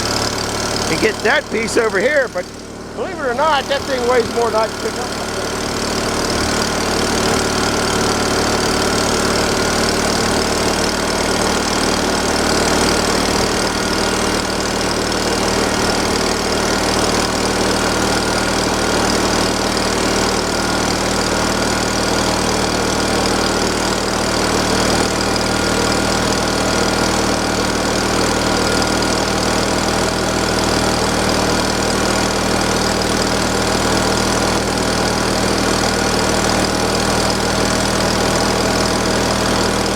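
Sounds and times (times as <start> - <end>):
gasoline engine idling: 0.0 - 39.9.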